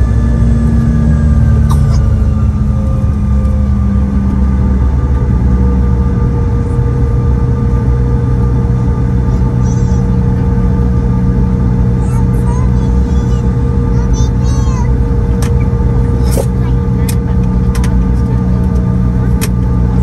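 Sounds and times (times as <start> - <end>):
jet engines rumble and drone: 0.0 - 20.0
whining engine tones: 0.0 - 20.0.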